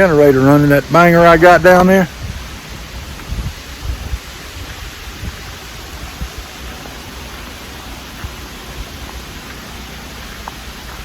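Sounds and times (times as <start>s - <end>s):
creek and waterfall rushing: 0.0s - 11.0s.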